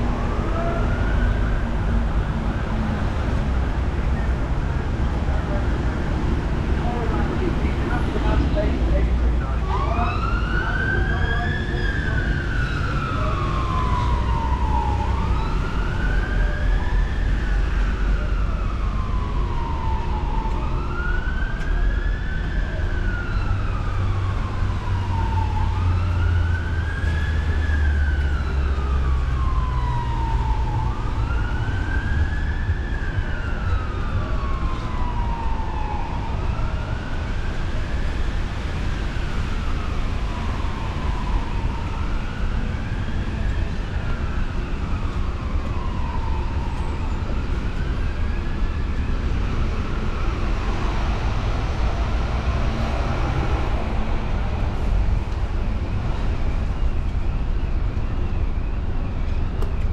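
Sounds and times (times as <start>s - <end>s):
emergency siren wailing: 0.0s - 59.9s
road traffic rumble: 0.0s - 59.9s.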